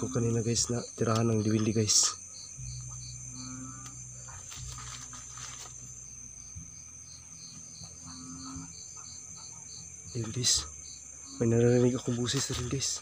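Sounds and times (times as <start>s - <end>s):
crickets trilling: 0.0s - 13.0s
rhythmic insect chirp: 0.0s - 13.0s.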